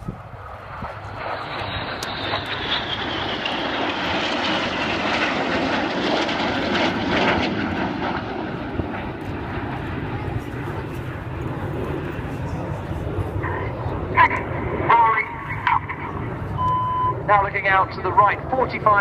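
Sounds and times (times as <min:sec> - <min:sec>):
high jet whine falling in pitch: 0:00.0 - 0:19.0
jets passing: 0:00.2 - 0:19.0.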